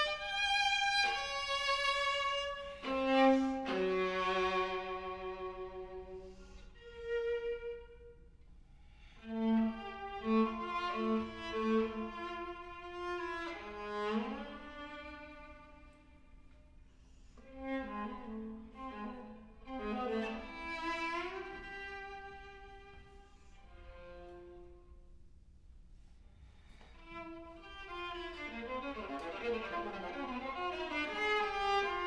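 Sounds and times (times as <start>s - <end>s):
bowed viola: 0.0s - 25.2s, 26.8s - 32.0s.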